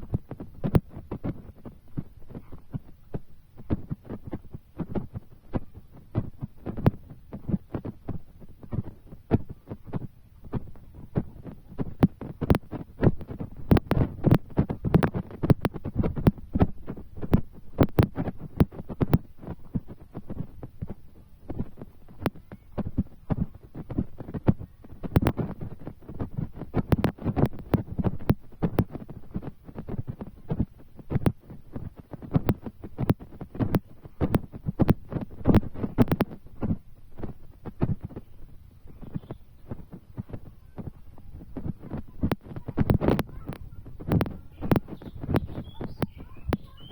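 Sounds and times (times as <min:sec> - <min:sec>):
raindrops thudding: 0:05.5 - 0:38.2, 0:39.0 - 0:46.9.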